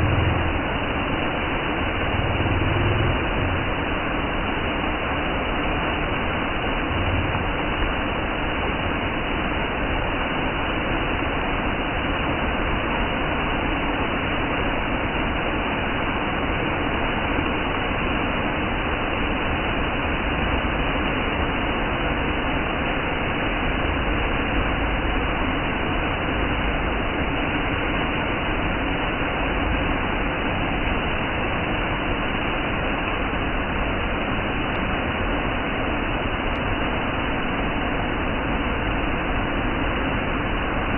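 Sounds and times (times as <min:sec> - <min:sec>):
waterfall roaring: 0:00.0 - 0:20.2, 0:20.8 - 0:40.9.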